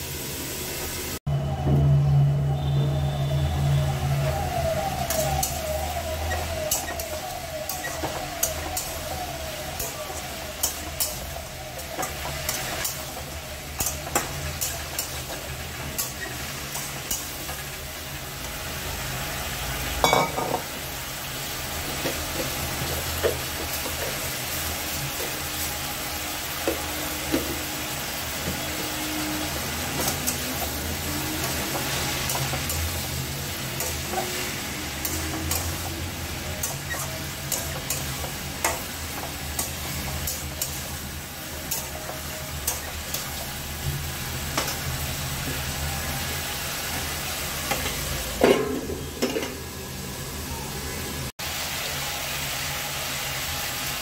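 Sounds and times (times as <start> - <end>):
food sizzling: 0.0 - 1.2, 2.4 - 54.0.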